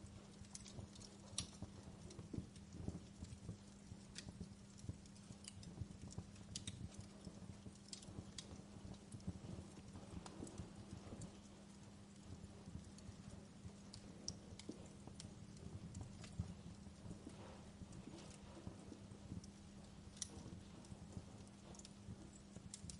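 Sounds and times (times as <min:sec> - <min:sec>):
faint steady hum: 0:00.0 - 0:22.9
wood fire crackling and popping: 0:00.0 - 0:22.9.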